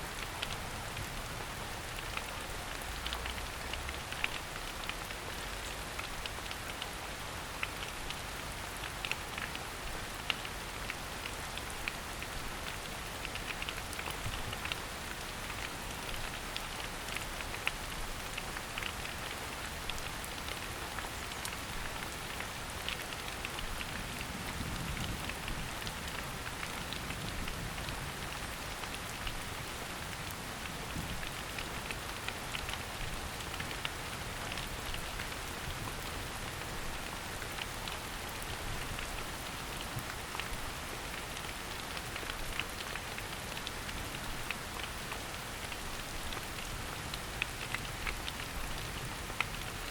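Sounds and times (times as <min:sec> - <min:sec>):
rain patter in forest: 0:00.0 - 0:49.9.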